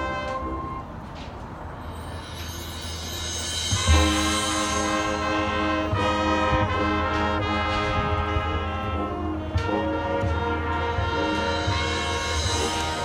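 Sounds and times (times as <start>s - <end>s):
brass section playing chords: 0.0s - 1.0s, 3.5s - 13.0s.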